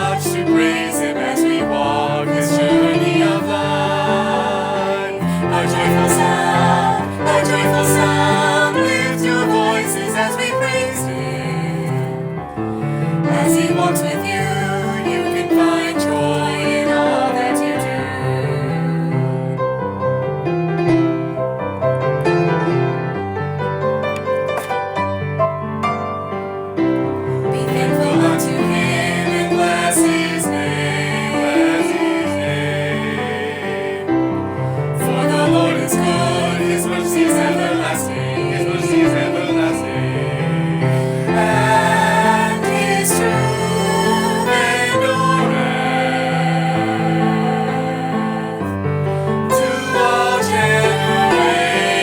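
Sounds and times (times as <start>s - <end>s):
choir singing: 0.0s - 20.0s, 27.2s - 52.0s
instrumental piano music: 0.0s - 52.0s.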